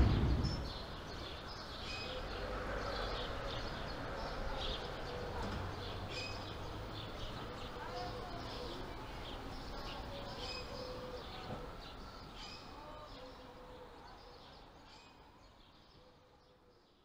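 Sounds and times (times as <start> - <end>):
birds chirping and calling: 0.0 - 16.6.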